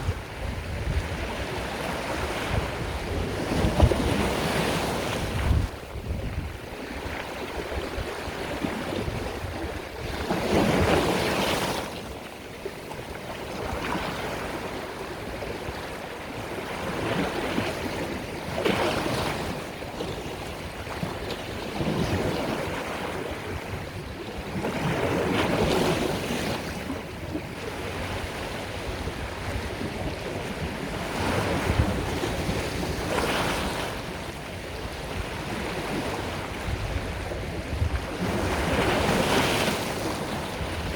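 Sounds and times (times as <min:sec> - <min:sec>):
sea waves breaking on shore: 0:00.0 - 0:40.9
wind on microphone: 0:00.0 - 0:40.9.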